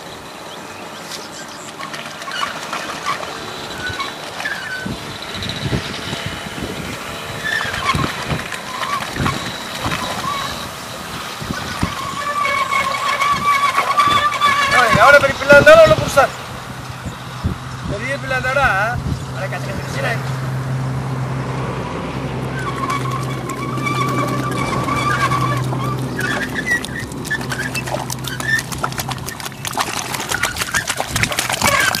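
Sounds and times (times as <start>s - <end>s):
water and mud sloshing: 0.0s - 18.0s, 22.4s - 32.0s
birds chirping: 0.0s - 20.5s, 22.5s - 32.0s
low engine hum: 0.0s - 32.0s.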